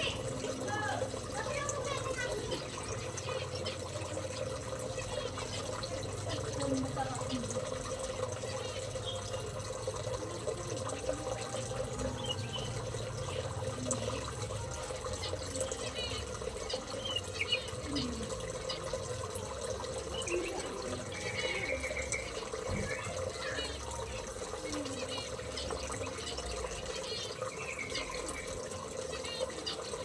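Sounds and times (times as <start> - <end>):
running water: 0.0 - 30.0
small birds chirping: 0.0 - 30.0.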